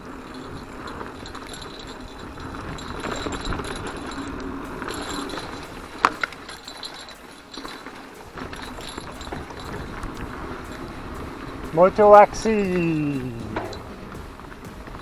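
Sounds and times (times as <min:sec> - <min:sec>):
chain rattle: 0:00.0 - 0:15.0
mountain bike tyre noise: 0:00.0 - 0:15.0
sharp metallic clink: 0:00.0 - 0:15.0.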